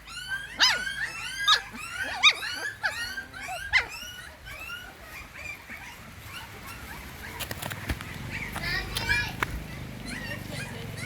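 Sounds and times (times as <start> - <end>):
puppies whining and squealing: 0.0 - 11.0.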